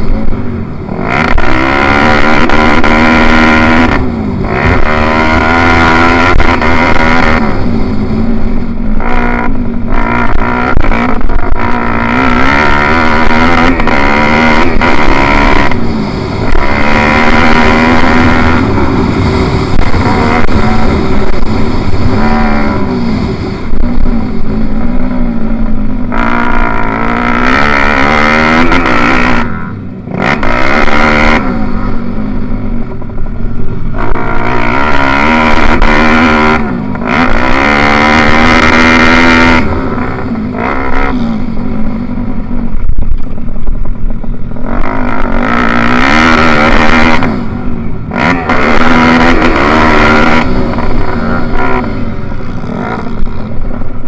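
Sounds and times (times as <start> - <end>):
pit bike engine revving: 0.0 - 43.0, 44.4 - 54.0.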